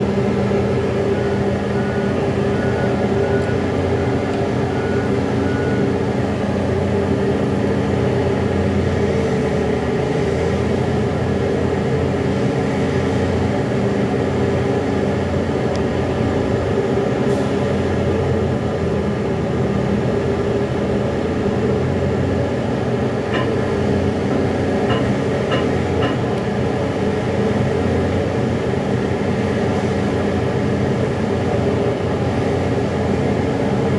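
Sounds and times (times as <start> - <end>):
heavy diesel excavator engine: 0.0 - 33.9.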